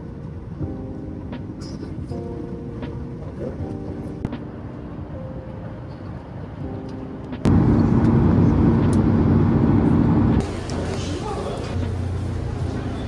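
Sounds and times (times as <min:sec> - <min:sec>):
airliner cabin engine drone: 0:00.0 - 0:13.0.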